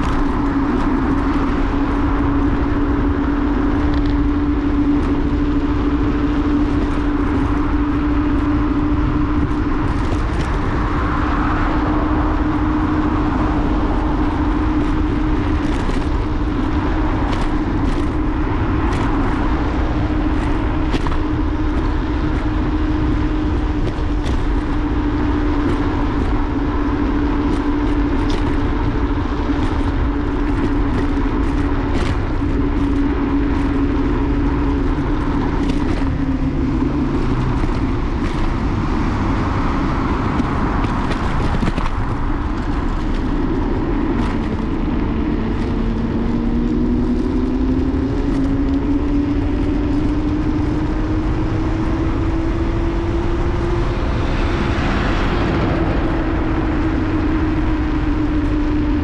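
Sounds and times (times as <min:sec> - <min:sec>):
electric scooter motor whine: 0:00.0 - 0:59.0
wind rumble on microphone: 0:00.0 - 0:59.0.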